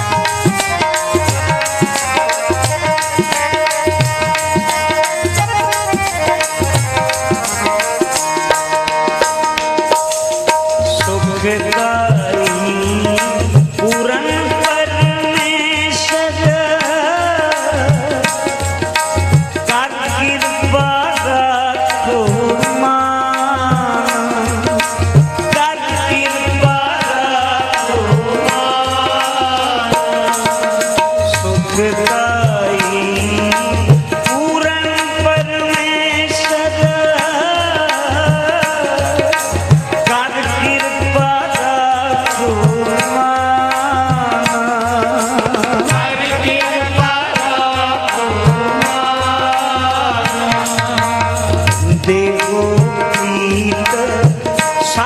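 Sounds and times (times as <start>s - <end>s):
harmonium melody: 0.0s - 55.0s
tabla rhythm: 0.0s - 55.0s.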